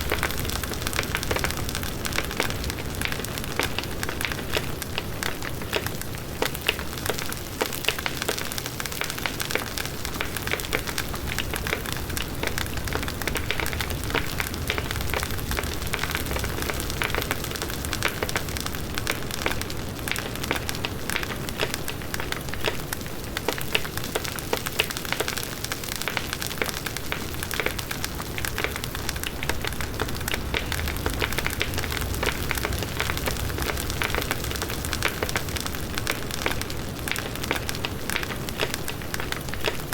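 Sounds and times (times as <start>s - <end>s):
flames rushing: 0.0s - 22.6s, 23.4s - 39.8s
burning wood crackling and popping: 0.0s - 39.9s.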